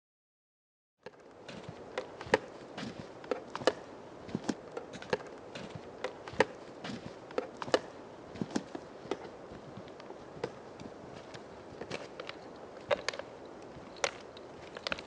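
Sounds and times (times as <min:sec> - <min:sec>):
steady background hiss: 0:01.1 - 0:15.0
twigs cracking underfoot: 0:01.1 - 0:15.0.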